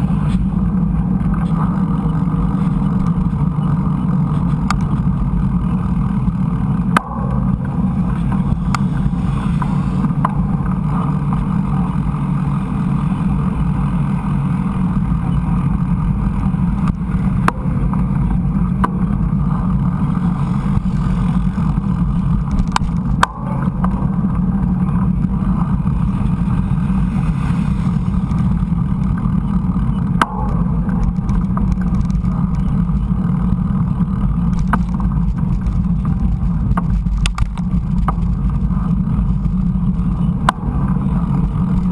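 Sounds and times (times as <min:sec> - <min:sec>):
bike tyres rolling on dirt: 0:00.0 - 0:41.9
wind rumble on microphone: 0:00.0 - 0:41.9.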